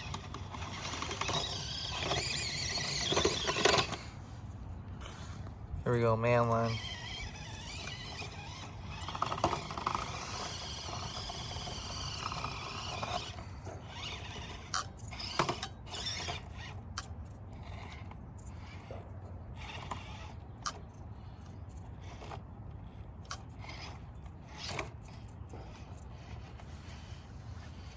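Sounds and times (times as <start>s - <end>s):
small electric motor whining: 0.0s - 27.9s.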